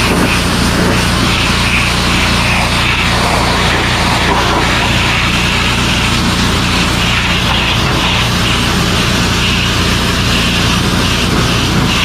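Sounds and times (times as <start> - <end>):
pressure washer running: 0.0 - 12.0.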